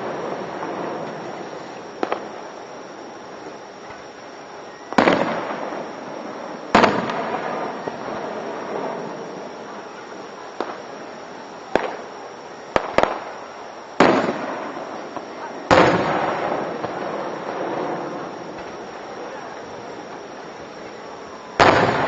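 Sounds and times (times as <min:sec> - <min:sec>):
fireworks bangs with rolling echo: 0:00.0 - 0:02.6, 0:04.8 - 0:22.0.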